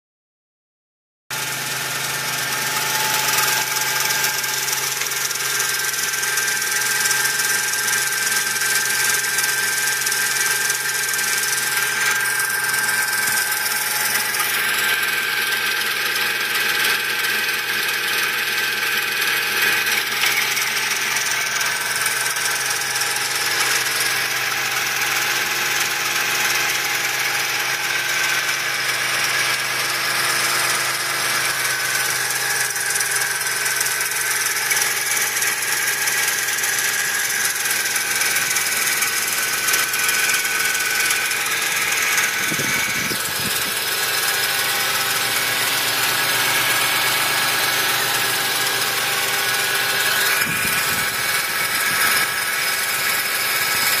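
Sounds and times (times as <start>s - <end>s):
engine running: 1.3s - 54.0s
strange belt drive noise: 1.3s - 54.0s.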